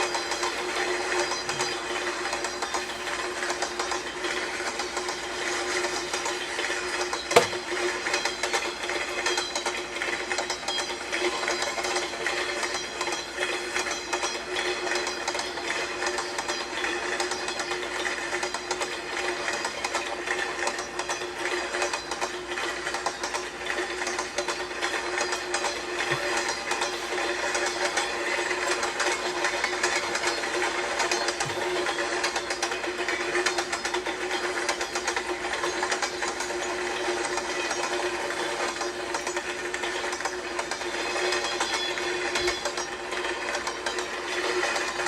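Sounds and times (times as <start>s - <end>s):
steady train hum: 0.0s - 45.0s
train wheels clickety-clack: 0.0s - 45.0s.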